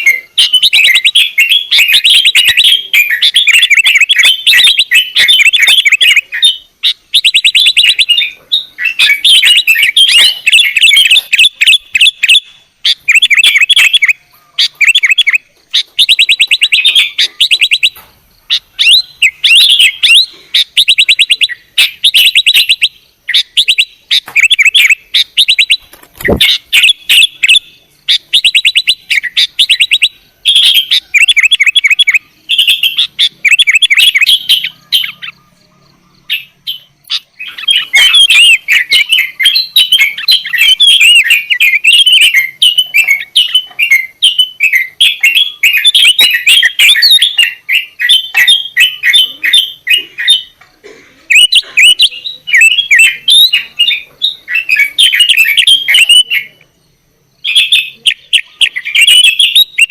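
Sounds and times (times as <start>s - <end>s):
bird singing bubbly phrases: 0.0s - 59.9s.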